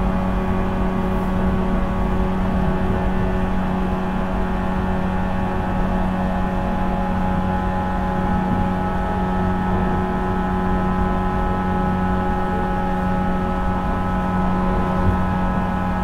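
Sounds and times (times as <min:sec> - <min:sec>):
train motor hum: 0:00.0 - 0:16.0.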